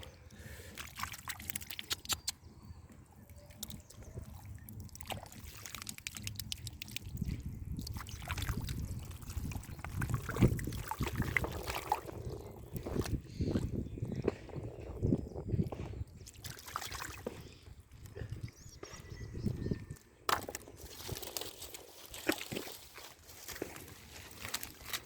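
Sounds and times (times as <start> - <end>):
muddy water sloshing and splashing: 0.0 - 2.5, 3.2 - 25.0.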